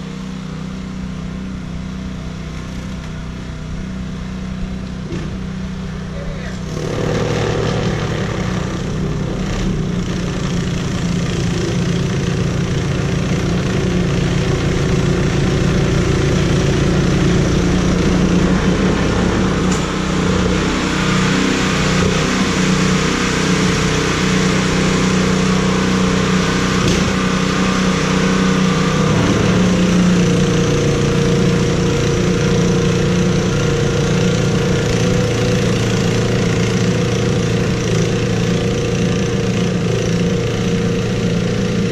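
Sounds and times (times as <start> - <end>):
engine running low hum: 0.0 - 41.9.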